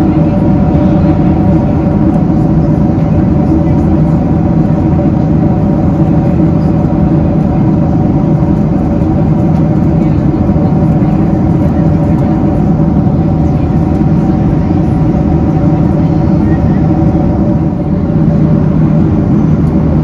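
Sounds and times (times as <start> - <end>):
airplane cabin air rush: 0.0 - 20.0
jet engines droning: 0.0 - 20.0.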